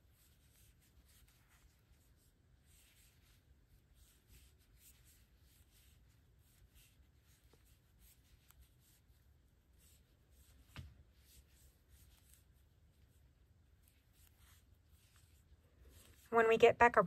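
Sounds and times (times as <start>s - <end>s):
yarn rustling with crochet hook: 0.0s - 17.0s.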